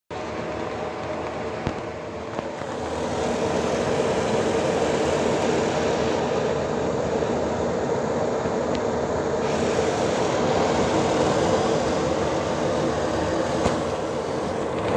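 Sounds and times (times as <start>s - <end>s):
exhaust fan air rush and hum: 0.1s - 14.9s.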